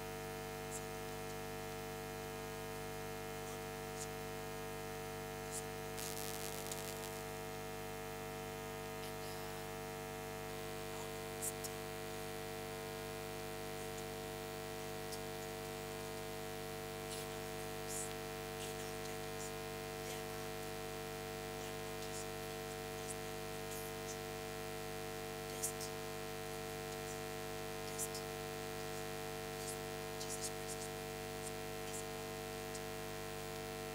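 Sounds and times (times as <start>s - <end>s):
electrical mains hum: 0.0s - 33.9s.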